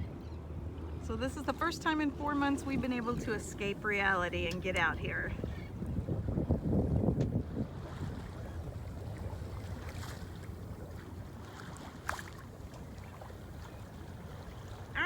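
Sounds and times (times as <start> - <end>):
water noise: 0.0 - 15.0
wind on microphone: 1.6 - 15.0.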